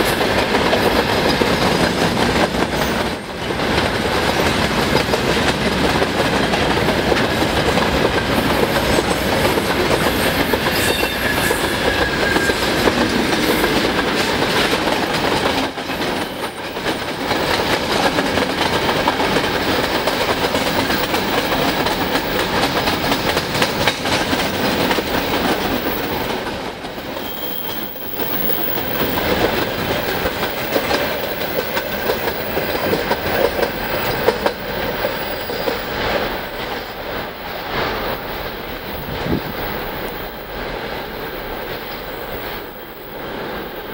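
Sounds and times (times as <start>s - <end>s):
freight train wheels clattering: 0.0s - 43.9s.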